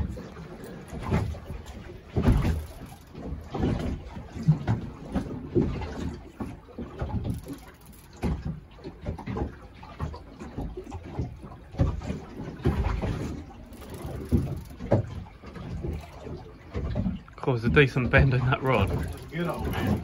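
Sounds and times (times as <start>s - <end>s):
water slapping against boat hull: 0.0s - 20.0s.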